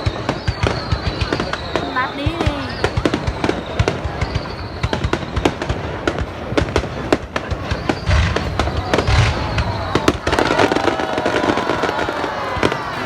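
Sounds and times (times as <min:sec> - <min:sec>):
deep firework boom: 0:00.0 - 0:13.0
fireworks bangs and crackles: 0:00.0 - 0:13.0.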